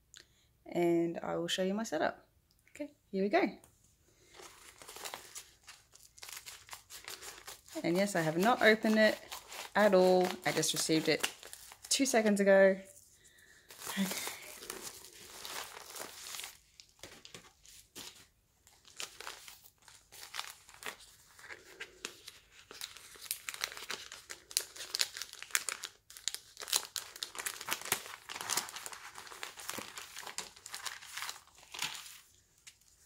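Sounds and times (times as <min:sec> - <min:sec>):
paper crinkling and rustling: 0:04.2 - 0:33.0.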